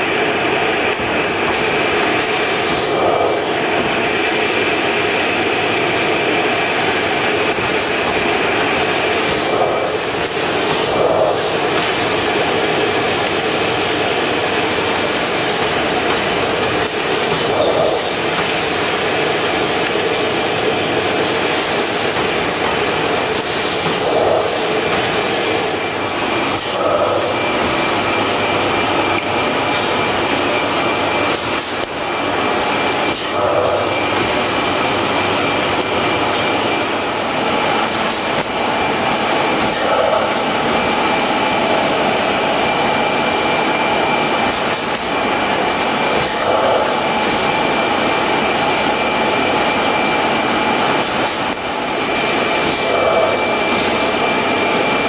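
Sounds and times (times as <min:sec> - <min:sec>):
machine whirr with high whine: 0:00.0 - 0:55.0.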